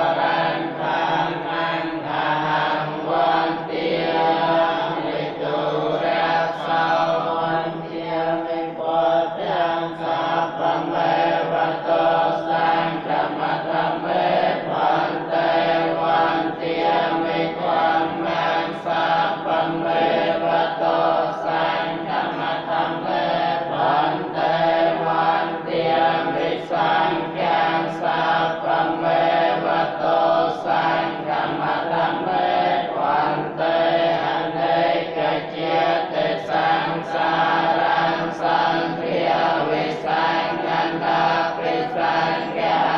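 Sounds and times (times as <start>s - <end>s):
monks chanting in unison: 0.0s - 42.9s.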